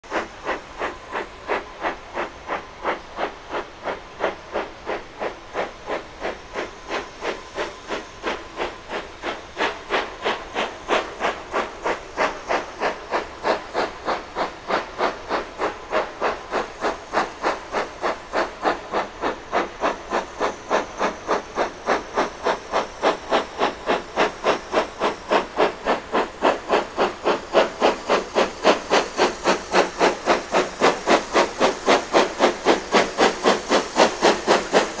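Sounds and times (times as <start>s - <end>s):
steam locomotive chuffing: 0.0s - 35.0s.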